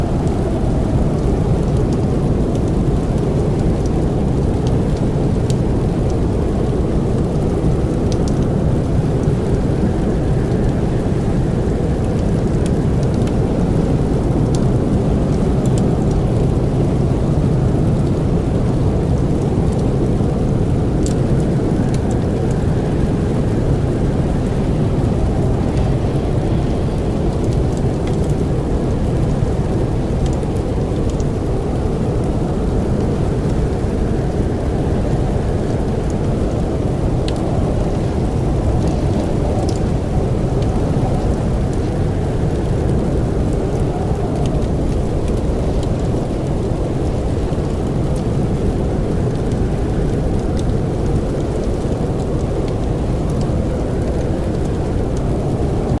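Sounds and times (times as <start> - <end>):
blizzard wind rumbling: 0.0 - 56.0
firewood crackling: 0.0 - 56.0.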